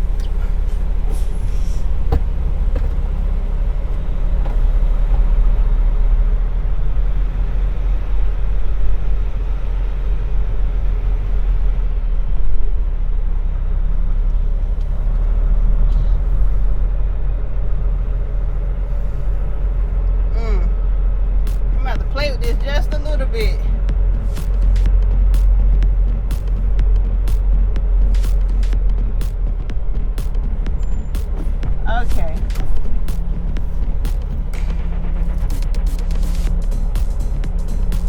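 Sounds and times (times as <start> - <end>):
truck diesel engine rumble: 0.0 - 38.0.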